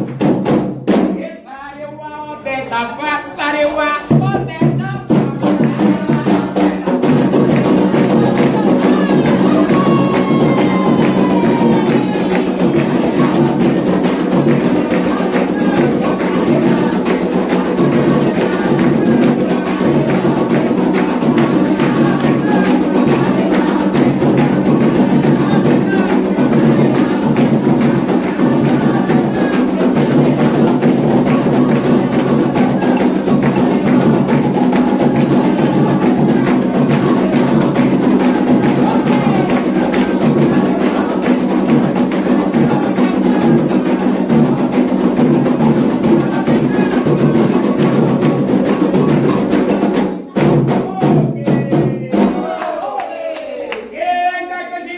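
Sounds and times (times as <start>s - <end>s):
hand drums playing rhythm: 0.0s - 1.2s, 4.0s - 53.1s
sharp high struck percussion: 5.4s - 50.6s.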